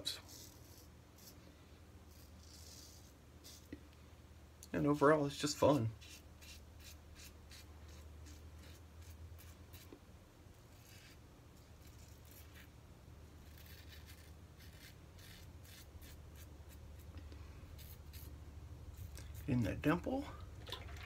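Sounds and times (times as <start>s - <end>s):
razor scraping stubble: 0.0s - 1.5s, 2.1s - 3.8s, 4.7s - 12.8s, 13.4s - 20.2s.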